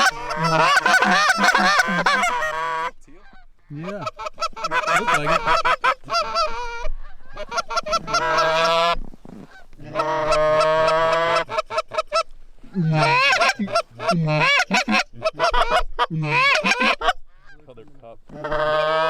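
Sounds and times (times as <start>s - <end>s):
goose honking: 0.0s - 19.0s.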